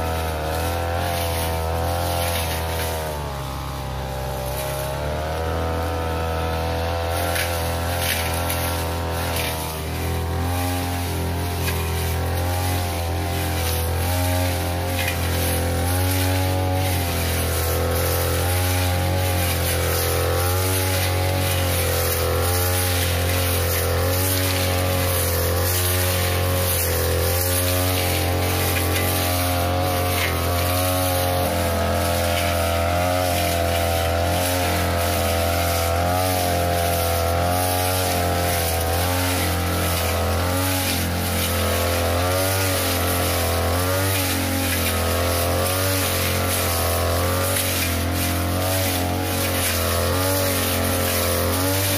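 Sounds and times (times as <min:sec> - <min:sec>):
blade cutting grass: 0:00.0 - 0:51.9
brush cutter engine running: 0:00.0 - 0:51.9.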